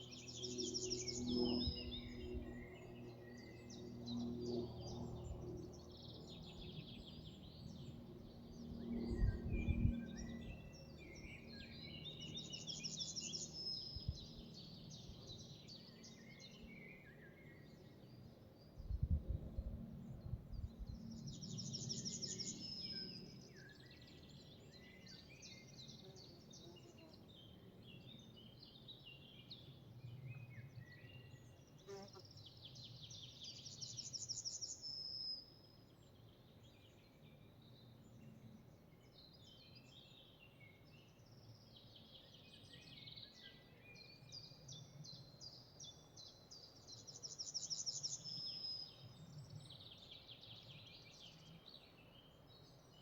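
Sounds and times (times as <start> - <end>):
forest songbirds singing: 4.8 - 18.7, 20.2 - 53.0.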